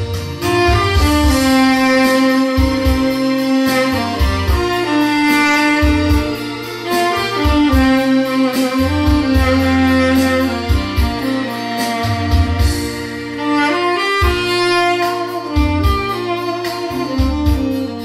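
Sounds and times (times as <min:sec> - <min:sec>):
bass line: 0:00.0 - 0:18.0
drum beat: 0:00.0 - 0:18.0
tenor saxophone melody: 0:00.0 - 0:18.0.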